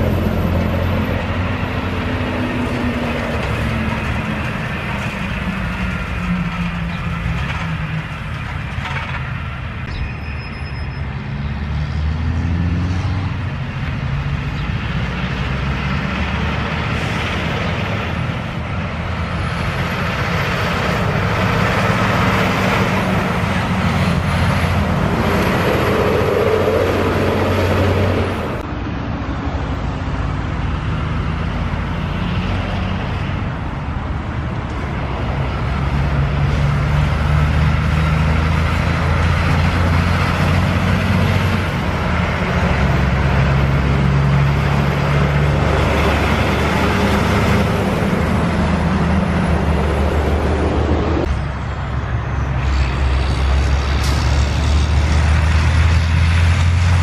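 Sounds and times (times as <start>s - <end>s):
diesel trucks passing: 0.0s - 57.0s
traffic noise of passing cars: 0.0s - 57.0s.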